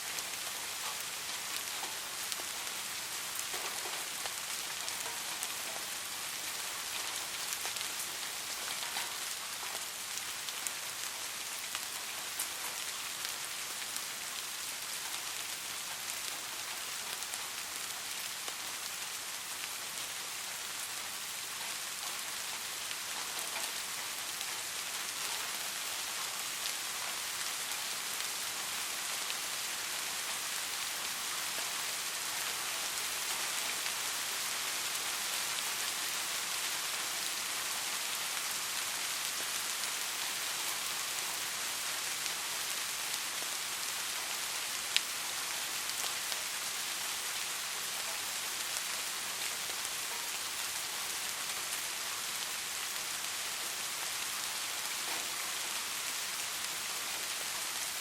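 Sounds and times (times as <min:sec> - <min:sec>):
raindrops ticking on surface: 0:00.0 - 0:58.0
steady rain: 0:00.0 - 0:58.0.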